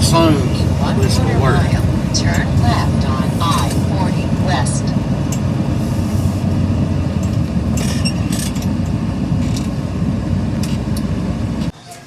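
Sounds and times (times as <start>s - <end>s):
road and wind rumble in car: 0.0s - 11.8s.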